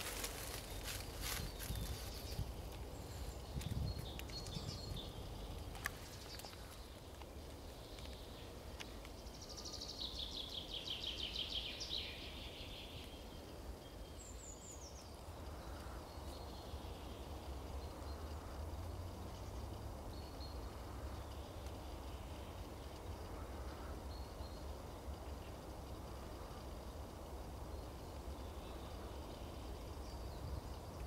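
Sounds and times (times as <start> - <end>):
low background rumble: 0.0 - 31.0
songbird trill: 0.0 - 31.0.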